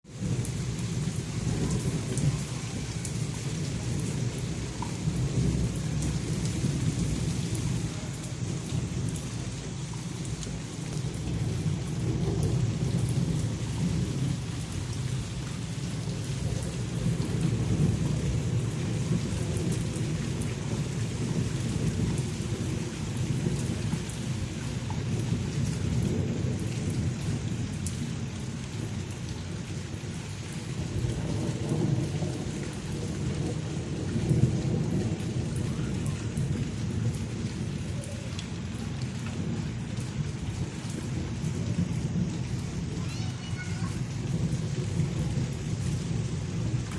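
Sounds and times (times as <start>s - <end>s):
heavy rain: 0.0s - 46.9s
raindrops ticking: 0.0s - 46.9s.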